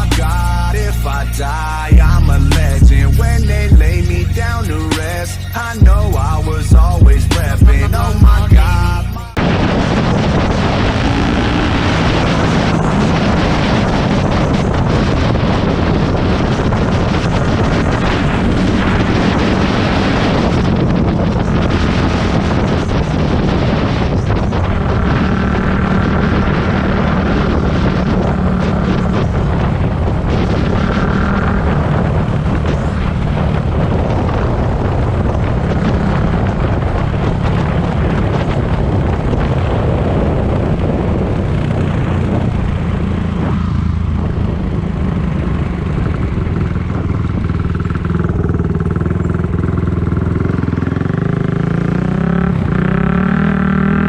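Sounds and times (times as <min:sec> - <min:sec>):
dirt bike engine running: 0:00.0 - 0:54.0
wind noise: 0:00.0 - 0:54.0.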